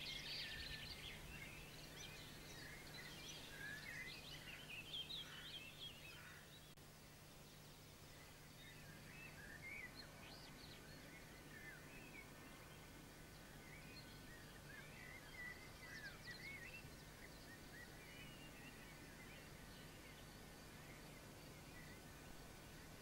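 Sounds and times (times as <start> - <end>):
birds chirping and warbling: 0.0 - 6.8, 7.4 - 23.0
low steady hum: 0.0 - 23.0.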